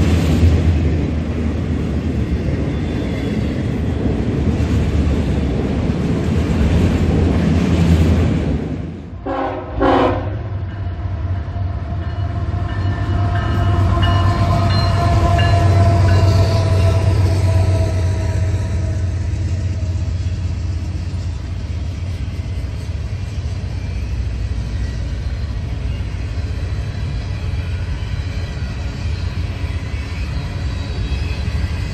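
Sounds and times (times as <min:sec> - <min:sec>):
diesel train low drone: 0:00.0 - 0:31.9
freight train cars rumbling past: 0:00.0 - 0:31.9.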